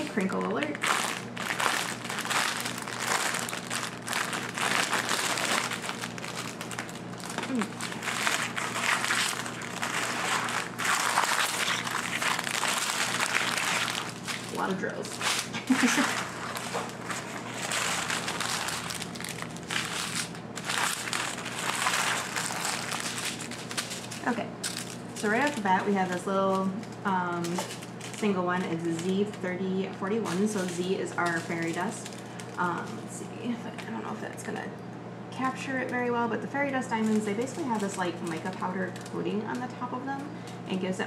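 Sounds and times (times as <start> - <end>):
plastic packaging crinkling: 0.0 - 34.6, 35.7 - 40.6.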